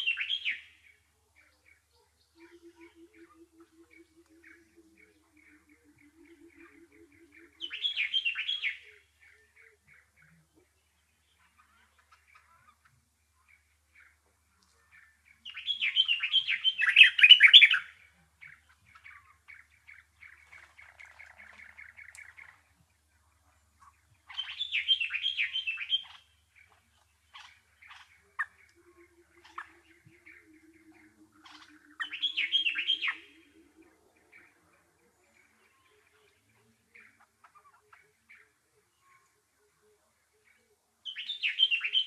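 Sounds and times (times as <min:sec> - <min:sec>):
songbird chattering: 0:00.0 - 0:00.8, 0:01.4 - 0:39.3, 0:40.4 - 0:42.0.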